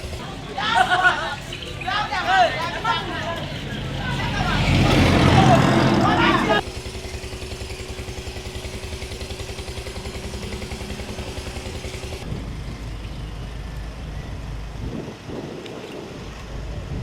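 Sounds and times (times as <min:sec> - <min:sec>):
rumbling outdoor background: 0:00.0 - 0:17.0
small engine idling: 0:00.0 - 0:17.0.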